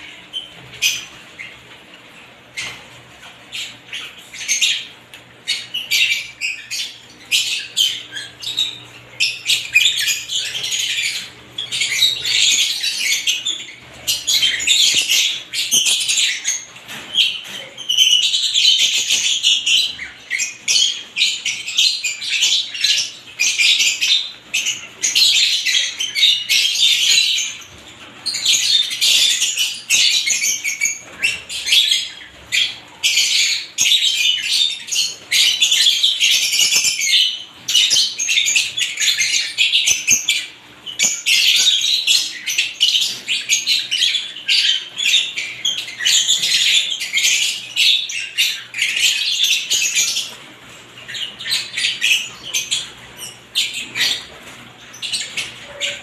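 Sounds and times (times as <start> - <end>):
lovebirds chirping and squawking: 0.0 - 56.0.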